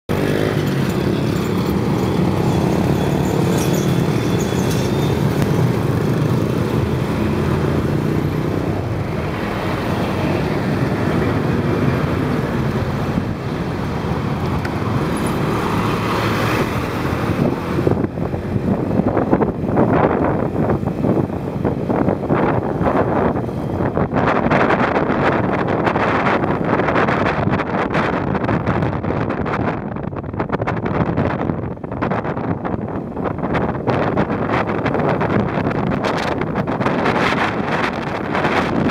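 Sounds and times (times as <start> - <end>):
cars and motorbikes passing: 0.1 - 38.9
wind buffeting microphone: 0.1 - 38.9.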